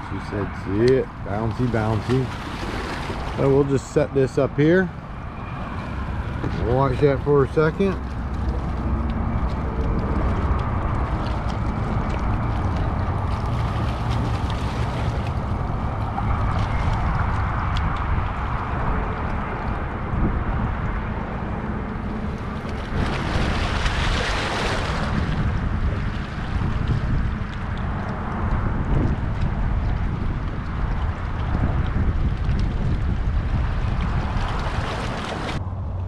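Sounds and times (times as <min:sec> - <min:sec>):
wind buffeting microphone: 0:00.0 - 0:36.0
low rumble: 0:04.6 - 0:36.0.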